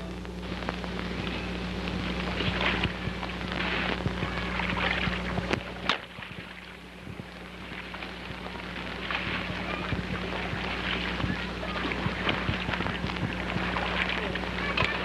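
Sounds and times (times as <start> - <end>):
electrical hum and hiss: 0.0 - 15.0
film crackles: 0.0 - 15.0.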